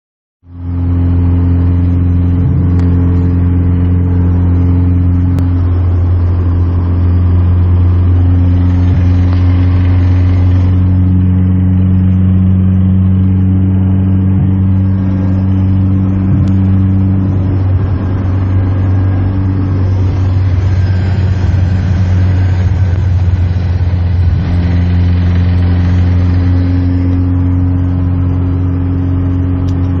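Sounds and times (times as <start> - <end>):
higher hum cutting out: 0.4 - 30.0
car engine idling: 0.5 - 30.0.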